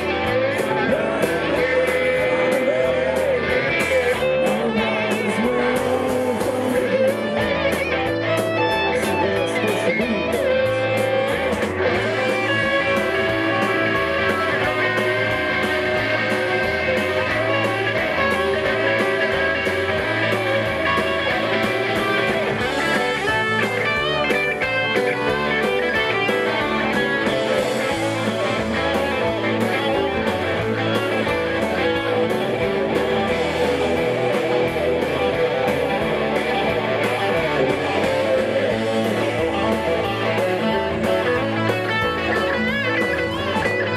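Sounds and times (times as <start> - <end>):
electric guitars playing: 0.0 - 43.9
steady drum beat: 0.0 - 43.9.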